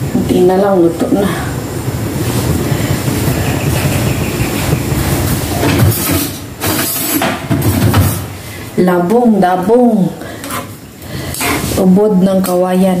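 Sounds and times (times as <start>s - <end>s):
gas burner hissing: 0.0s - 13.0s.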